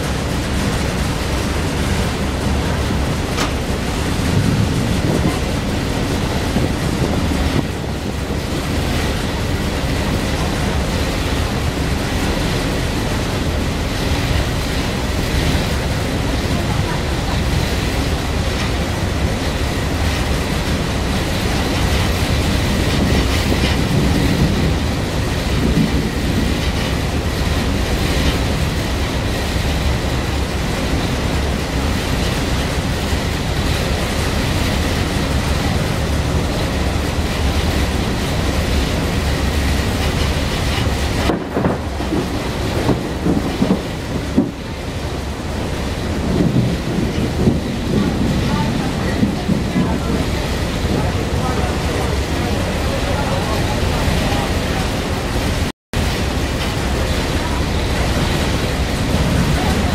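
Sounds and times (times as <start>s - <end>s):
boat engine rumble and rushing: 0.0s - 59.9s.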